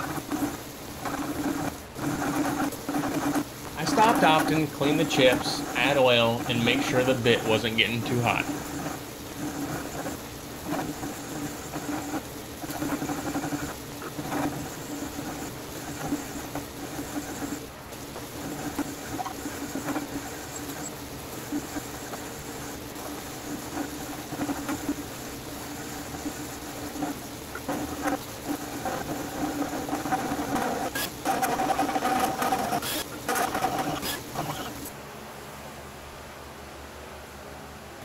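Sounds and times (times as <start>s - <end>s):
drill press humming: 0.0s - 34.9s.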